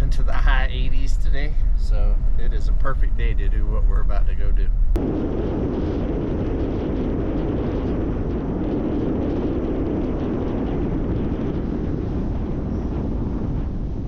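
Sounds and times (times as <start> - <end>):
engine and tyre rumble: 0.0 - 14.0
wind: 0.0 - 14.0.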